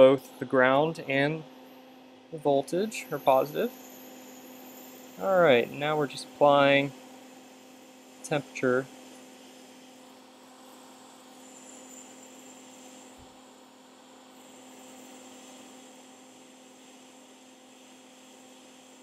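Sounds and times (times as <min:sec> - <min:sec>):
hot air blower hum and hiss: 0:00.0 - 0:19.0.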